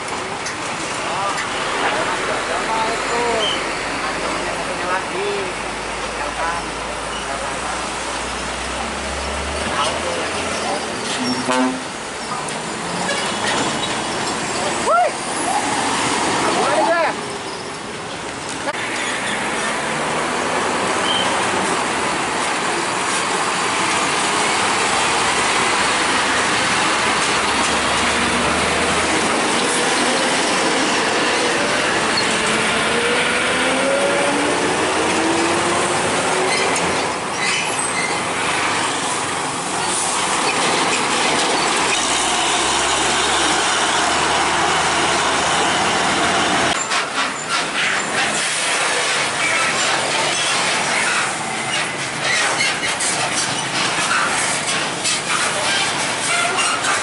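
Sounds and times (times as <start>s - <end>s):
diesel truck engines under load: 0.0s - 57.0s.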